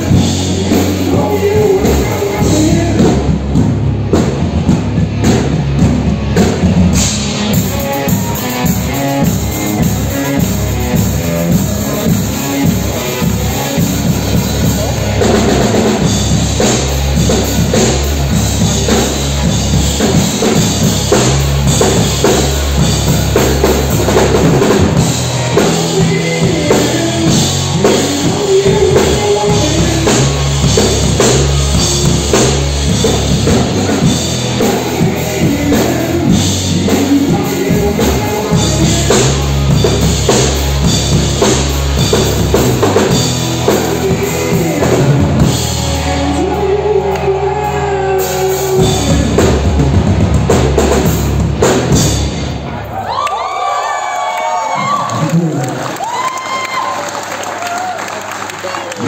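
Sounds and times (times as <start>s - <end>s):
sustained melody line: 0.0s - 50.6s
drum kit beat: 0.0s - 52.6s
bass notes: 0.0s - 53.1s.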